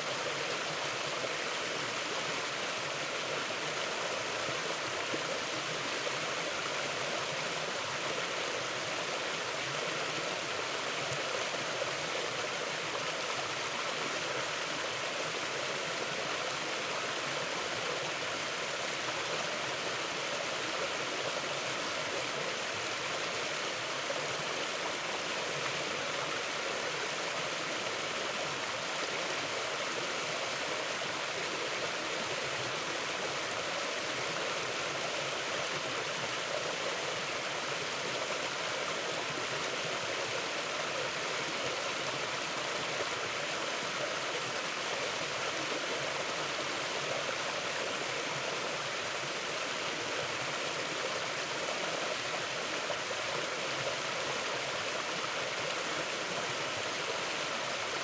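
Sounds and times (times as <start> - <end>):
river water flowing over rocks: 0.0 - 58.0.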